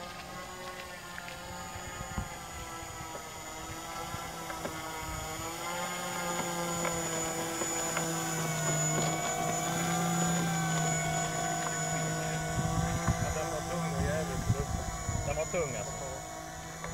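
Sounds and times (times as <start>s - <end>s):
model plane engines droning: 0.0s - 16.9s.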